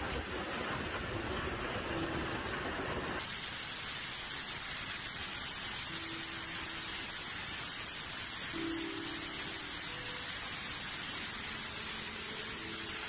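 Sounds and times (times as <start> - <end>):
heavy rain on a corrugated roof: 0.0 - 13.0.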